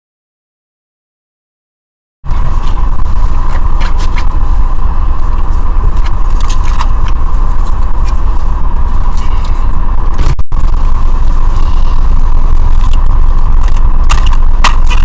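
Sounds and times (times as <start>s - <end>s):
moving vehicle rumble: 2.2s - 15.0s
clicks and crackles: 2.3s - 15.0s.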